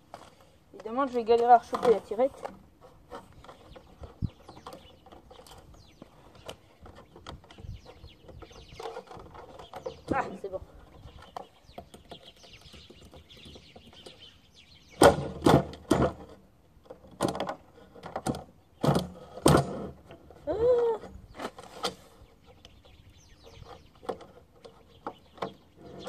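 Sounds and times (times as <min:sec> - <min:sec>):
faint birdsong: 0:00.0 - 0:26.0.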